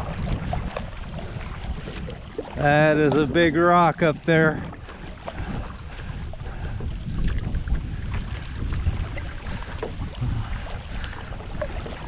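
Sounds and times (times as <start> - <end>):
paddle splashing in water: 0.0 - 12.0
wind rumbling on microphone: 0.0 - 12.0.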